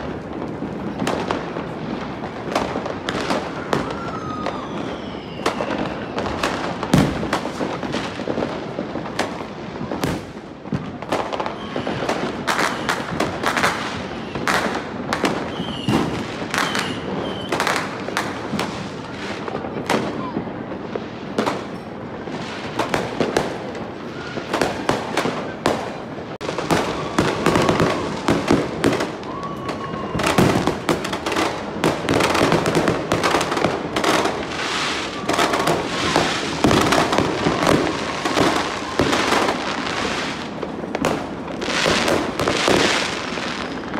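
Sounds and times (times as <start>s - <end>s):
fireworks bangs and crackling: 0.0s - 43.9s
fireworks whistles: 0.0s - 43.9s.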